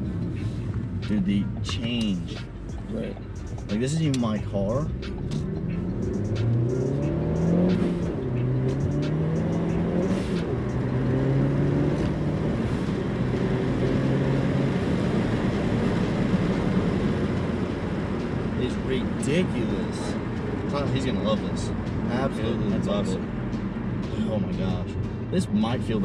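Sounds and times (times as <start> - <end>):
car engine accelerating through gears: 4.8 - 26.0.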